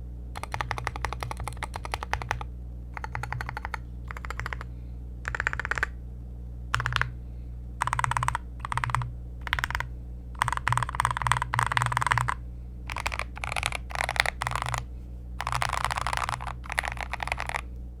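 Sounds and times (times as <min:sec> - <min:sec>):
mechanical keyboard typing: 0:00.4 - 0:06.0, 0:06.7 - 0:07.1, 0:07.8 - 0:14.8, 0:15.4 - 0:17.6.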